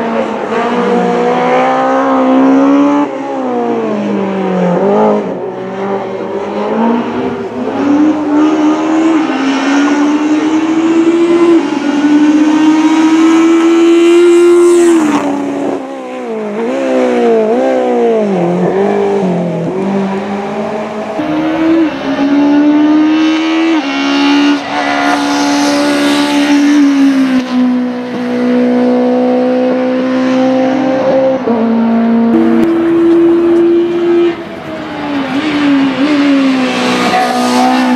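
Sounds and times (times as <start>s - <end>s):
race car engine at high revs: 0.0s - 37.9s.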